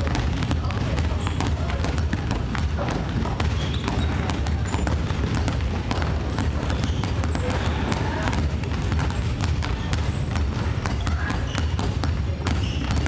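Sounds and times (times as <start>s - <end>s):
basketballs bouncing on wooden floor: 0.0s - 13.0s.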